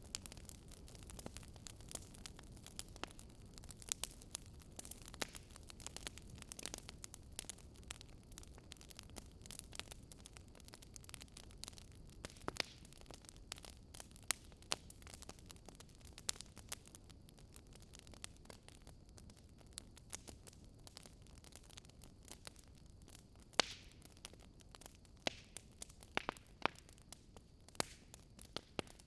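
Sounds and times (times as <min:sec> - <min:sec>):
low rumble of burning: 0:00.0 - 0:29.0
wood fire crackling: 0:00.0 - 0:29.0.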